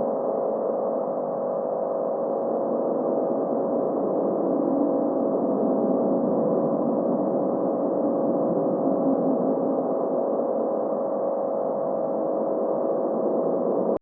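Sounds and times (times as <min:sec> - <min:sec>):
ambient humming drone: 0:00.0 - 0:14.0.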